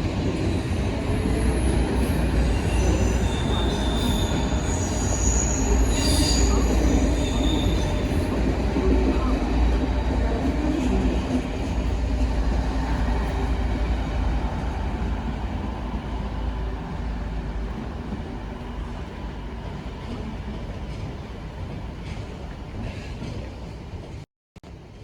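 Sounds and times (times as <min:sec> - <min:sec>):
diesel train rumble: 0:00.0 - 0:24.2.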